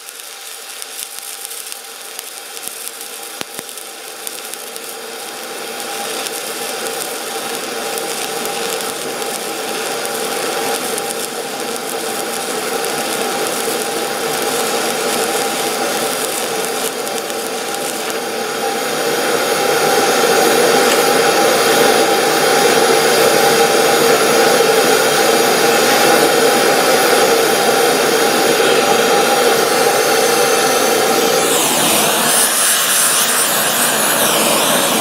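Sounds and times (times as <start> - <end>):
machine drone: 0.0 - 35.0.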